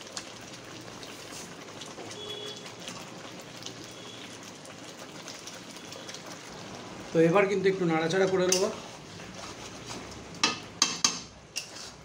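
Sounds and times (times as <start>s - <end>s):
gravy bubbling and popping: 0.0s - 11.7s.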